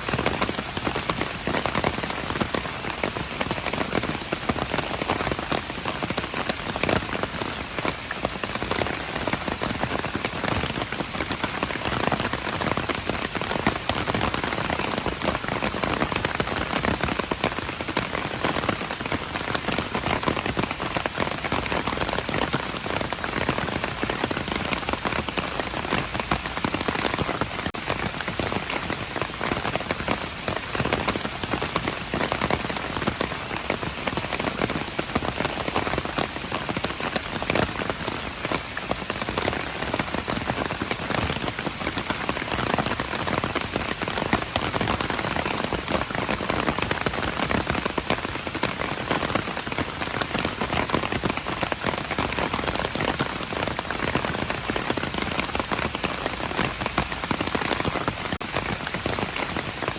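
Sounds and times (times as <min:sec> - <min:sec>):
rain pattering on hard surfaces: 0:00.0 - 0:59.9.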